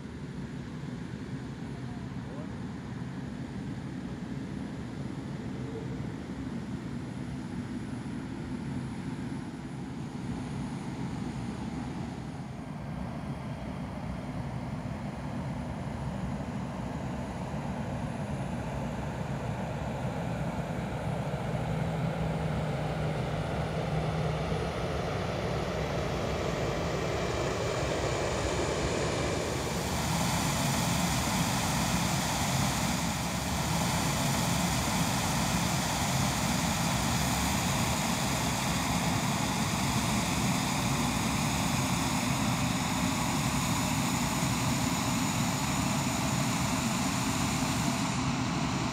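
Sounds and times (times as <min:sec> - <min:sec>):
jet engine rumble and hiss: 0:00.0 - 0:48.9
high jet whine: 0:09.6 - 0:48.9.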